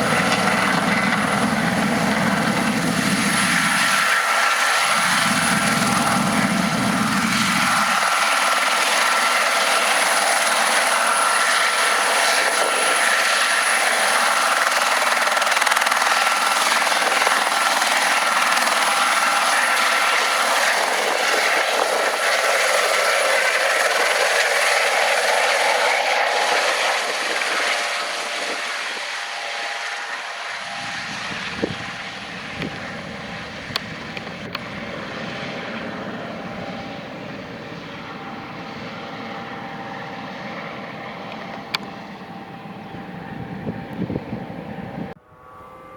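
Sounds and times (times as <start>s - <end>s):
helicopter in flight: 0.0s - 45.9s.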